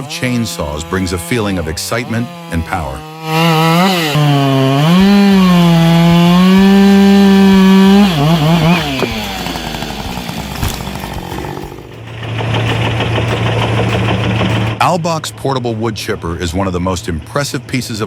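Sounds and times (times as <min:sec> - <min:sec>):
chainsaw cutting wood: 0:00.0 - 0:14.8.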